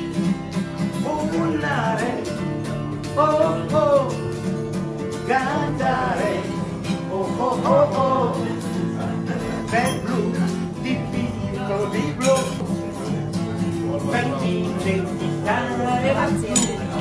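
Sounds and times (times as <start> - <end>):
acoustic guitar chords: 0.0 - 17.0
man singing: 0.8 - 17.0.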